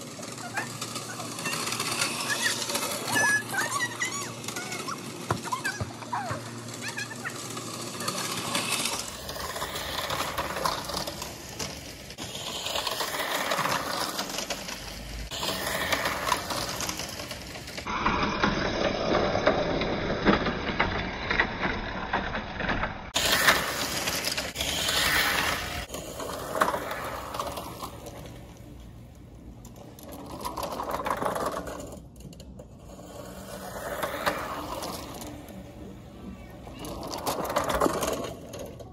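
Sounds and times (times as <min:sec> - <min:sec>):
reel mower whirring: 0:00.0 - 0:21.7, 0:23.2 - 0:38.9.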